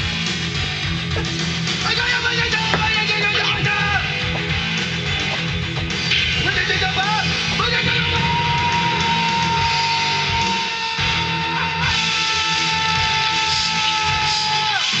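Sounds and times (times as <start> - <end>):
loud rock music with guitar: 0.0 - 15.0.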